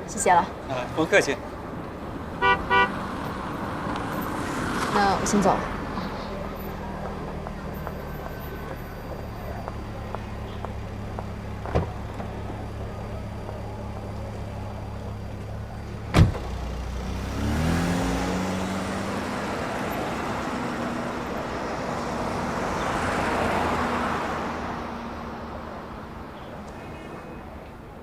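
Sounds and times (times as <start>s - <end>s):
car driving: 0.0s - 28.0s
car engine starting: 0.2s - 28.0s.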